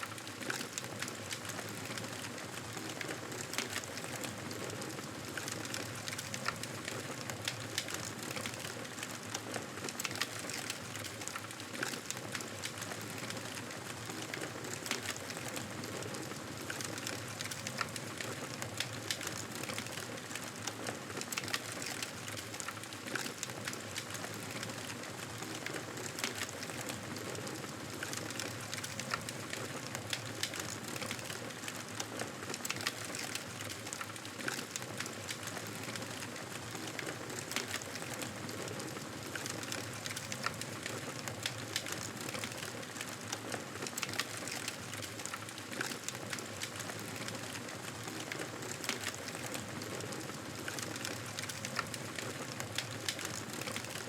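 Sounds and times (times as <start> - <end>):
campfire crackling and hissing: 0.0 - 54.0.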